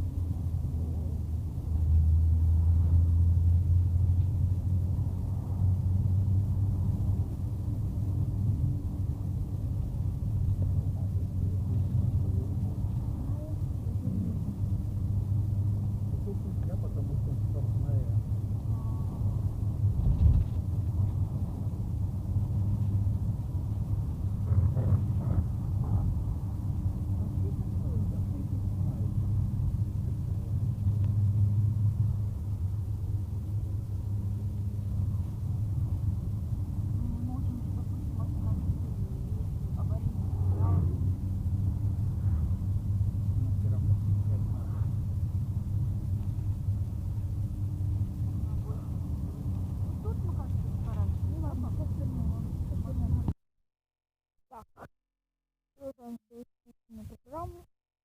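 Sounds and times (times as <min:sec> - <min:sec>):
car interior engine and road drone: 0:00.0 - 0:53.4
motor vehicle rumbling: 0:00.0 - 0:53.4.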